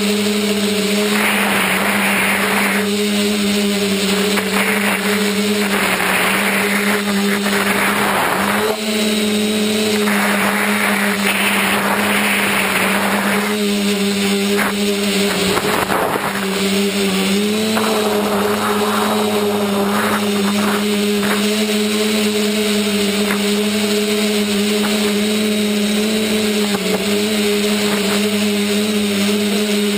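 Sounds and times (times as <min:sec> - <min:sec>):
rushing wind noise: 0:00.0 - 0:29.9
small motor humming: 0:00.0 - 0:29.9.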